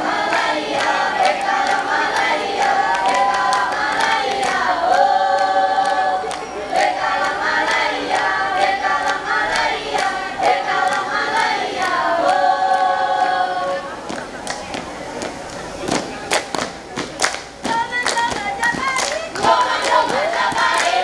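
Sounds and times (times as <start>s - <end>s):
girls singing in chorus: 0.0s - 14.1s, 17.6s - 21.0s.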